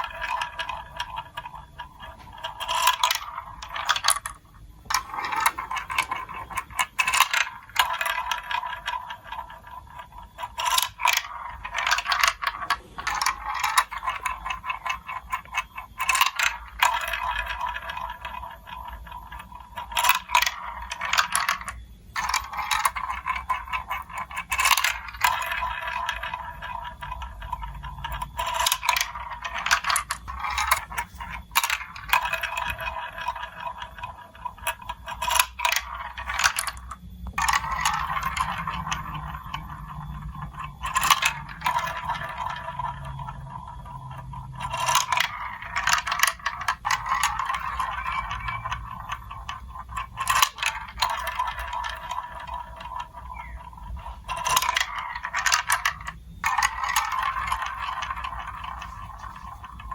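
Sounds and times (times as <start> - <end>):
marbles clicking on track: 0.0 - 59.9
marbles rolling on plastic track: 0.0 - 59.9.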